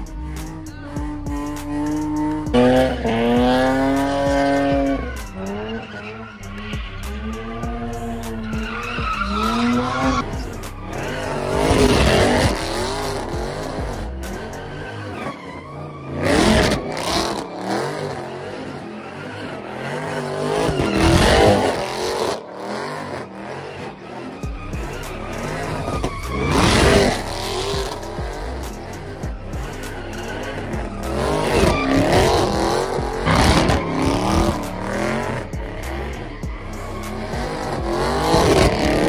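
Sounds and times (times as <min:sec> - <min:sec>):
car engines revving: 0:00.0 - 0:39.0
tires screeching: 0:00.0 - 0:39.0.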